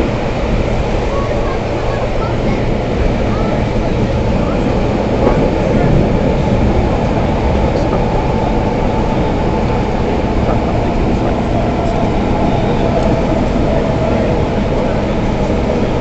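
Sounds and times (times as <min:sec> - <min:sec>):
train carriage rumbling on rails: 0:00.0 - 0:16.0.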